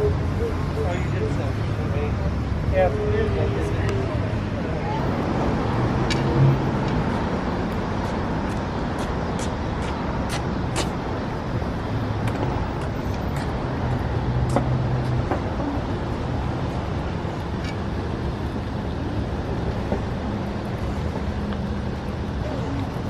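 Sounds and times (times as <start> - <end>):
road traffic rumble: 0.0 - 23.0
vehicle engine humming low: 0.0 - 23.0.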